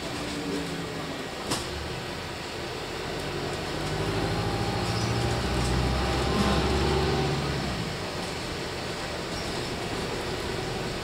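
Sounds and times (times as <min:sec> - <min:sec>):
bus drivetrain hum: 0:00.0 - 0:11.0.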